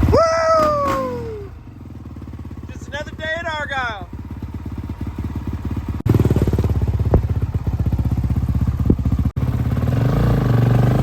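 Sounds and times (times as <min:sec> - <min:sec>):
motocross bike engines buzzing: 0:00.0 - 0:11.0.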